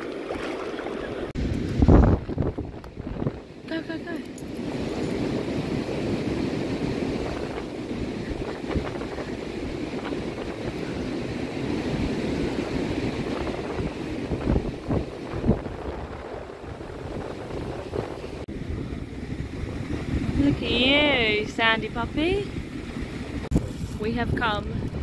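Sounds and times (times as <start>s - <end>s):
low surf: 0.0s - 25.0s
wind buffeting microphone: 0.0s - 25.0s.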